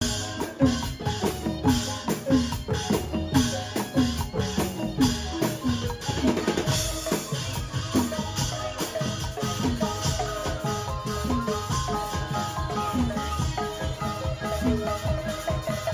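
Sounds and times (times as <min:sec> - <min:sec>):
instrumental music with percussion: 0:00.0 - 0:15.9.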